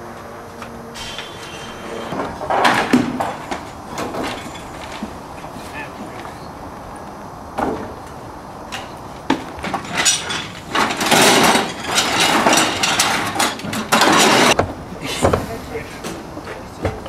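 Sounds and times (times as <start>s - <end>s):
metal and wooden hardware clattering: 1.0s - 7.9s, 8.7s - 15.4s.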